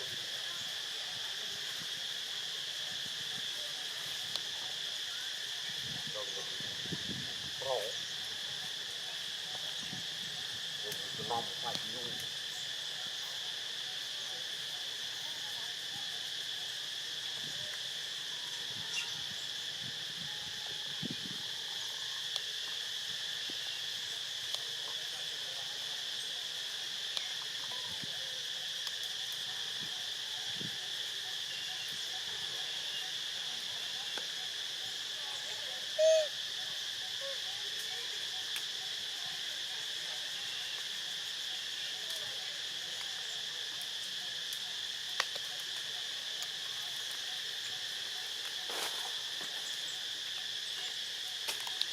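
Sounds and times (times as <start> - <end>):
high insect chorus: 0.0 - 51.9.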